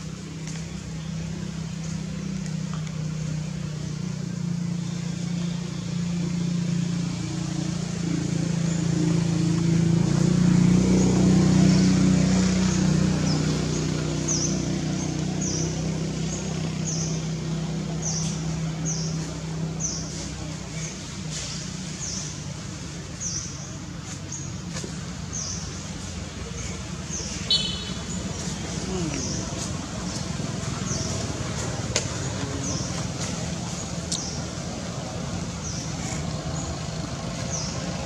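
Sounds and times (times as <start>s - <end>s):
low engine hum: 0.0s - 38.0s.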